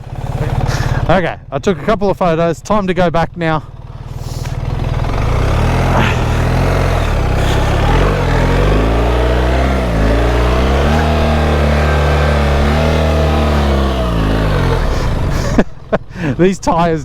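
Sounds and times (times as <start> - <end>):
motorcycle engine pulling away: 0.0 - 1.2, 3.4 - 16.4.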